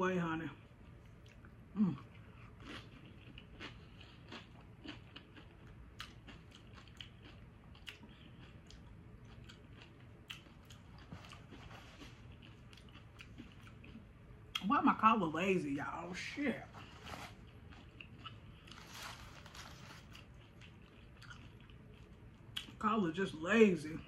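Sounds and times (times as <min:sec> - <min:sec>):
person chewing food: 0:00.8 - 0:14.6, 0:16.7 - 0:22.8.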